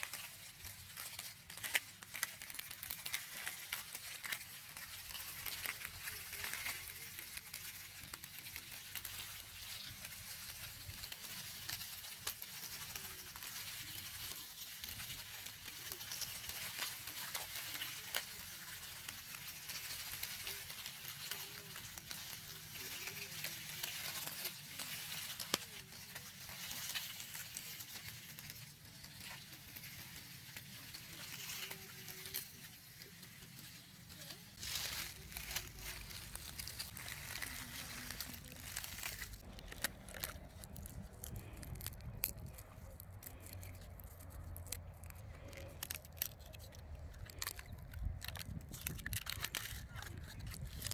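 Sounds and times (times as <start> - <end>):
dry material rustling and crackling: 0.0 - 50.9.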